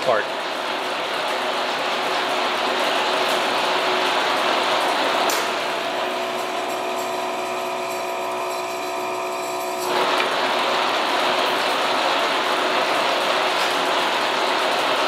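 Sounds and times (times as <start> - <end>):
milling machine whirring: 0.0 - 15.0.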